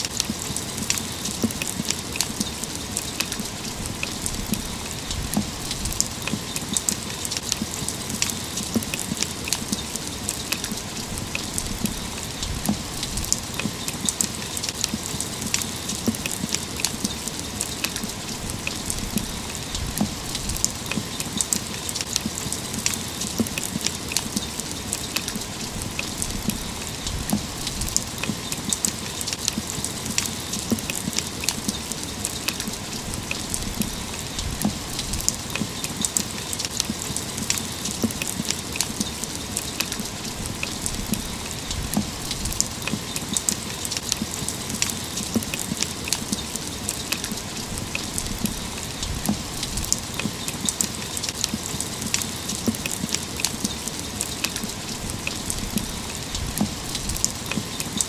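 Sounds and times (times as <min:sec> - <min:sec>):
raindrops ticking on hard surface: 0:00.0 - 0:58.0
steady rain: 0:00.0 - 0:58.0.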